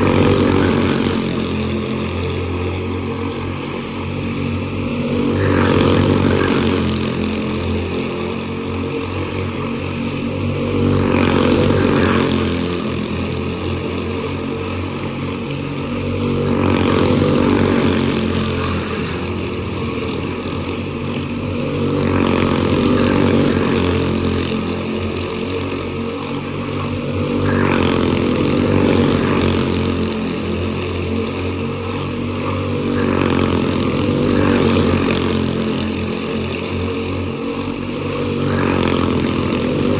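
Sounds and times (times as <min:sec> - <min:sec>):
small race car engines running laps: 0:00.0 - 0:39.9.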